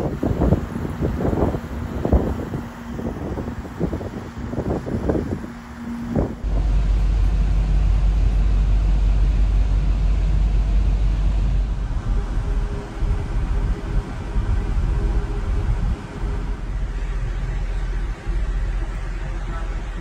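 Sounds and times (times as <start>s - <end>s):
ship running noise: 0.0s - 20.0s
wind buffeting microphone: 0.0s - 20.0s.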